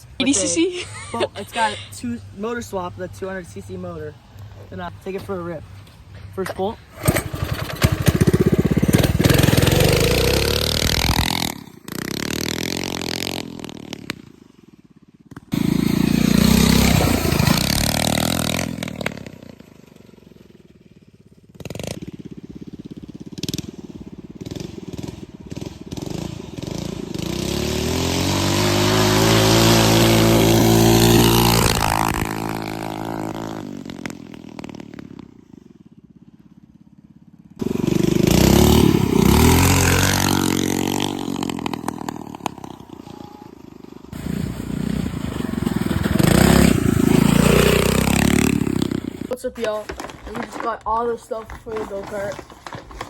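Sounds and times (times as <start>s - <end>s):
go-kart engine revving: 0.1s - 5.6s, 6.6s - 20.6s, 21.2s - 53.0s.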